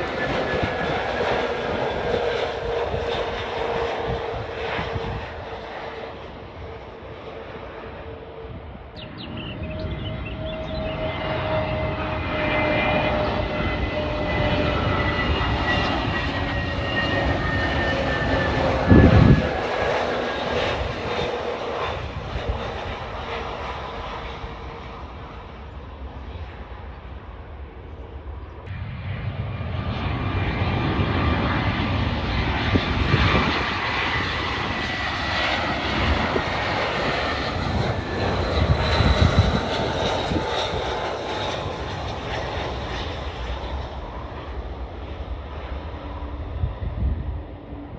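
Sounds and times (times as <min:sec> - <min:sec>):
jet engine roar: 0:00.0 - 0:47.9.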